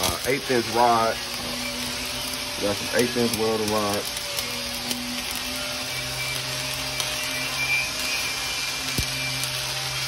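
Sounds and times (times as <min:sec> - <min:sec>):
welding arc frying hiss: 0:00.0 - 0:10.0.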